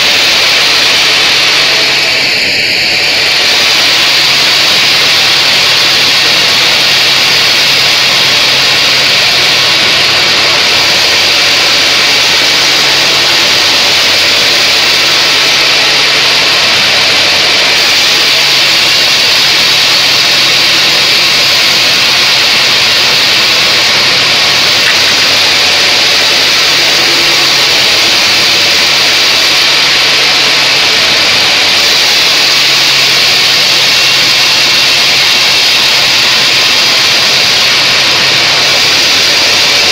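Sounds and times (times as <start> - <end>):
low machine hum: 0.0 - 34.0
bandsaw cutting wood: 0.0 - 39.9.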